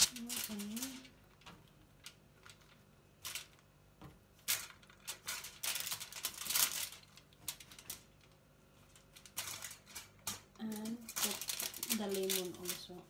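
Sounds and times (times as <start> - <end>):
foil and plastic wrap crinkling: 0.0 - 3.7, 4.4 - 13.0.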